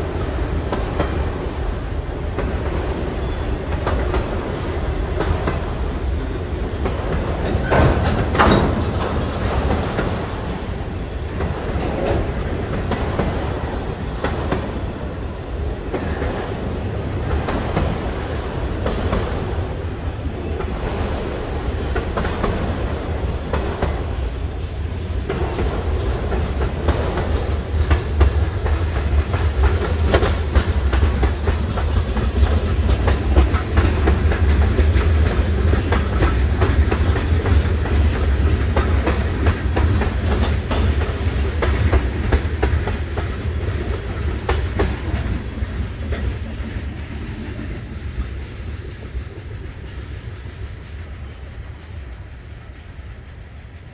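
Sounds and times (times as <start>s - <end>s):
freight train rumble: 0.0s - 53.9s
wheels clacking over rail joints: 0.0s - 53.9s.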